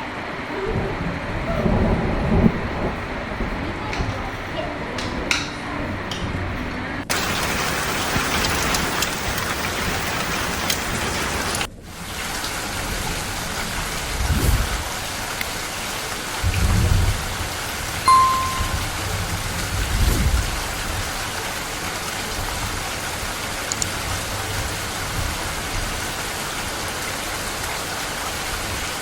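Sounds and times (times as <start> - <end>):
rain falling: 0.0 - 6.2, 7.0 - 29.0
thunder rumbling: 0.0 - 29.0.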